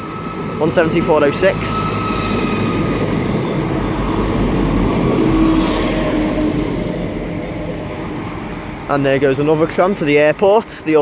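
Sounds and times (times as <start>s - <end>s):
diesel train passing slowly: 0.0s - 11.0s.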